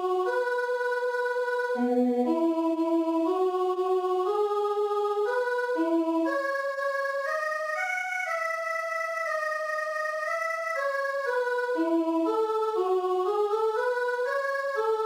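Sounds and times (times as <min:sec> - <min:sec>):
synthesized midi melody: 0:00.0 - 0:15.0.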